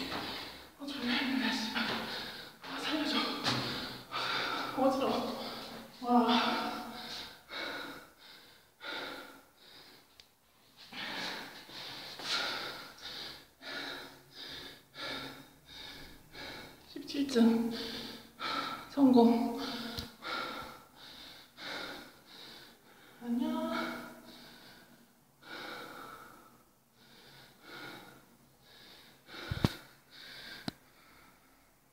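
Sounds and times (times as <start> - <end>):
woman breathing hard: 0.0 - 2.8, 3.4 - 10.1, 10.7 - 16.9, 19.6 - 31.9
woman panting heavily: 0.0 - 10.1, 10.8 - 31.6.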